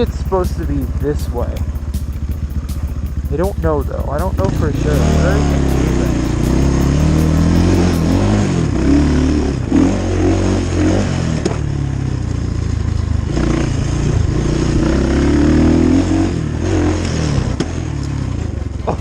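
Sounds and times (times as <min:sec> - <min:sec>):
dirt bike engine revving: 0:00.0 - 0:11.7, 0:13.2 - 0:19.0.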